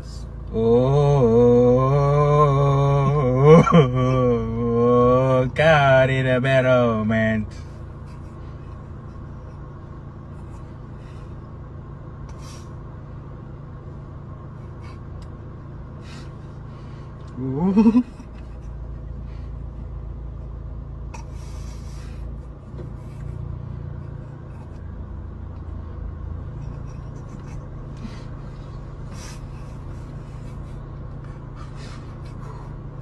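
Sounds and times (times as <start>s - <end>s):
car interior rumble: 0.0s - 33.0s.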